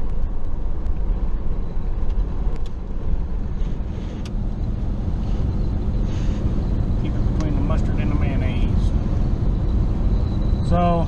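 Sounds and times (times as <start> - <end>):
road and wind noise in truck cab: 0.0 - 11.0.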